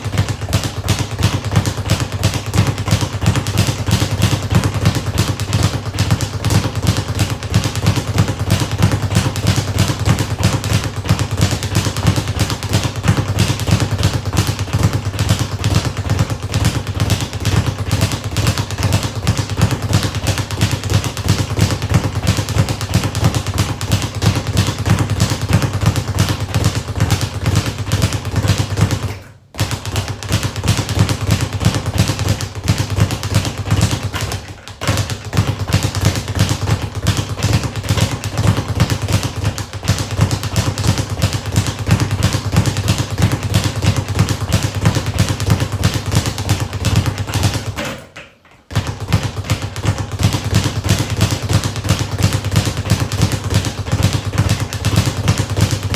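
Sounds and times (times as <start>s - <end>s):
speed bag rattling: 0.0s - 48.1s, 48.7s - 55.9s.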